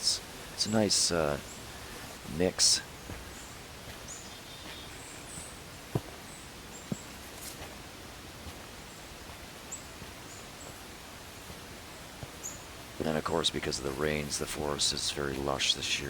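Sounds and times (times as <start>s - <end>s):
distant bird chirps: 0.0s - 7.4s, 8.8s - 15.8s
steady hiss: 0.0s - 16.0s.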